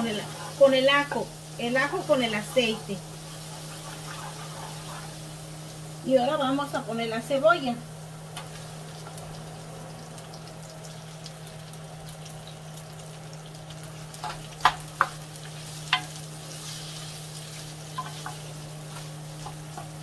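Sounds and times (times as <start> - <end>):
onion sizzling in hot oil: 0.0 - 20.0.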